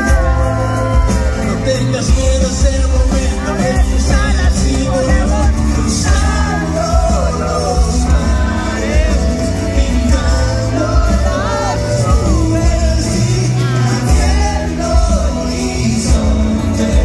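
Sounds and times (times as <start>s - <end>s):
live pop music with heavy bass: 0.0s - 17.0s
man singing into microphone: 0.0s - 17.0s.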